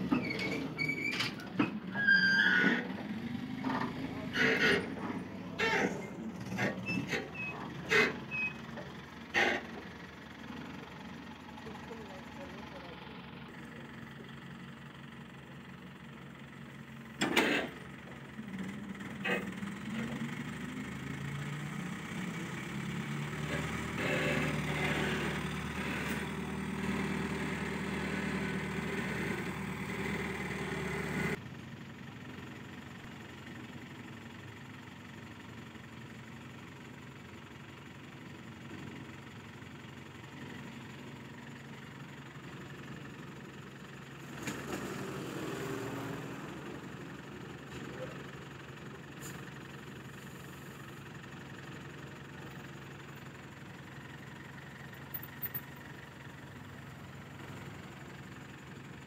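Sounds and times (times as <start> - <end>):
crane diesel engine running: 0.0 - 59.0.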